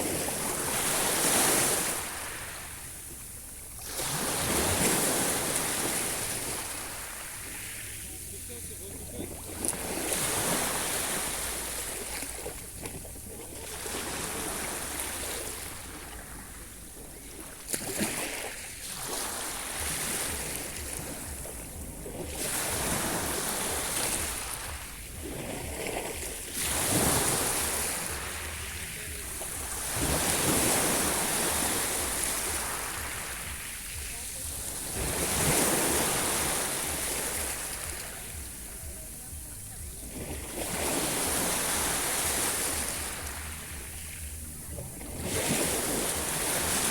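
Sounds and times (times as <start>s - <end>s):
sea waves washing in: 0.0s - 46.9s.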